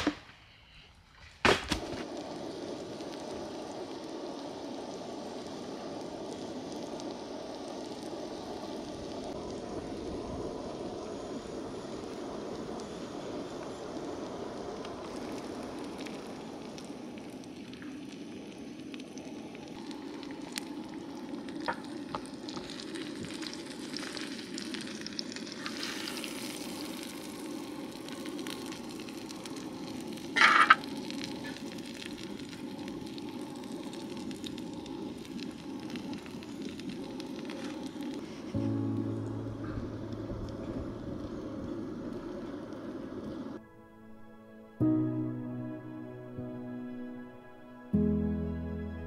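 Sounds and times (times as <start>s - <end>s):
burger patties sizzling: 1.7s - 43.6s.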